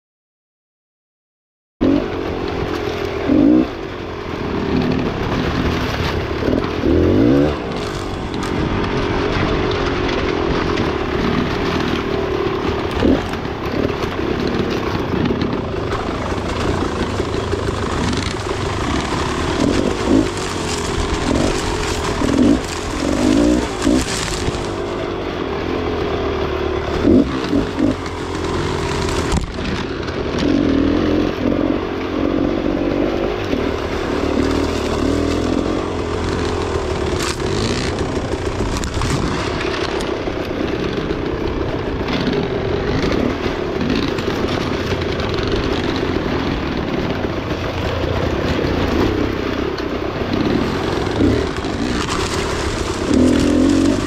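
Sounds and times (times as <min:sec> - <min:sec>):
dirt bike engine revving: 0:01.8 - 0:54.0
rattles and scrapes: 0:04.7 - 0:30.6, 0:33.4 - 0:54.0.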